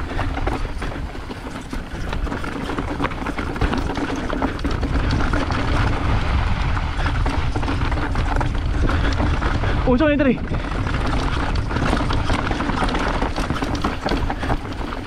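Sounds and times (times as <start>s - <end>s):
bike clicks and rattles: 0.0s - 15.0s
wind and trail rumble on microphone: 0.0s - 15.0s.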